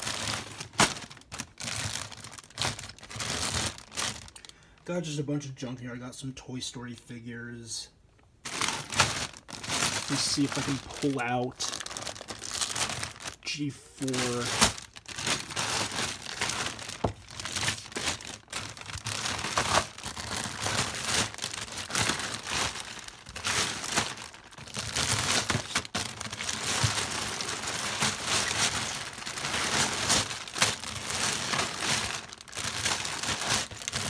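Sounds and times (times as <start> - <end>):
plastic bags crinkling: 0.0 - 4.9, 8.4 - 34.0.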